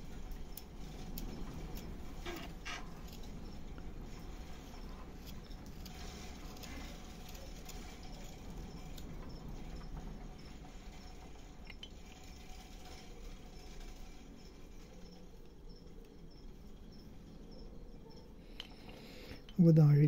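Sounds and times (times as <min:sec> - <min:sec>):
small clicks of shavings: 0:00.0 - 0:17.3.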